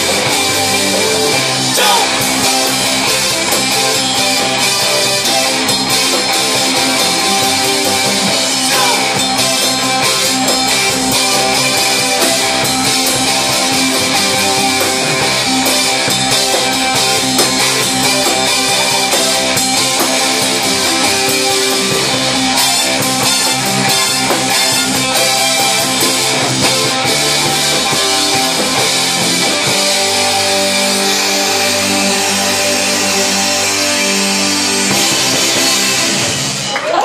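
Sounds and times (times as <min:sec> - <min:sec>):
drum kit beat: 0:00.0 - 0:37.0
electric guitars: 0:00.0 - 0:37.0.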